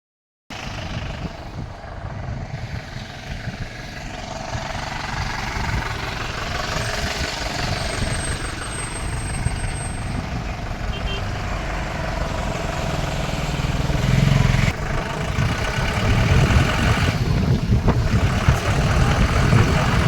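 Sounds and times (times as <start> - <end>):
vehicle rumble and road noise: 0.5 - 20.0.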